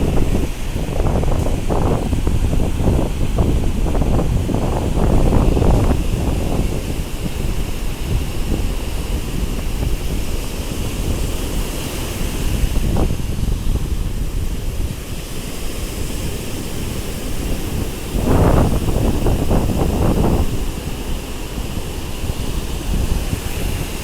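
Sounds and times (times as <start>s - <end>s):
surf washing on beach: 0.0s - 24.0s
wind rumbling on microphone: 0.0s - 24.0s.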